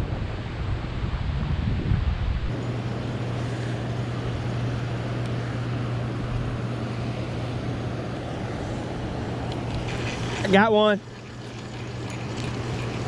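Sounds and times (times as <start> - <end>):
low motor hum: 0.0 - 13.0
wind: 0.0 - 13.0
water noise: 2.4 - 13.0.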